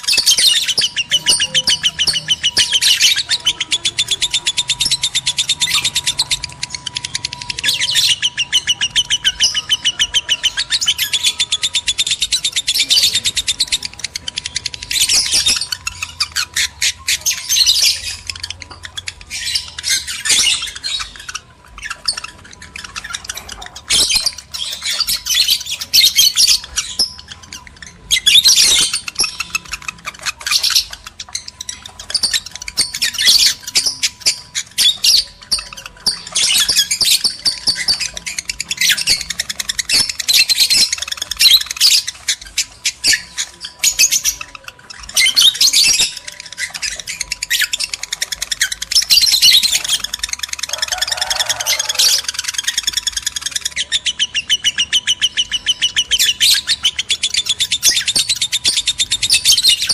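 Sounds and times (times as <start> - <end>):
lovebirds chattering and squawking: 0.0 - 59.9.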